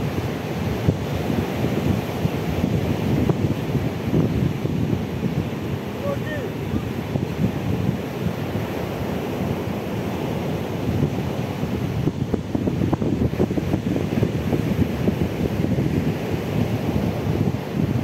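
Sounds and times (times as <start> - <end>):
surf breaking on pebble shore: 0.0 - 18.0
wind buffeting microphone: 0.0 - 18.0.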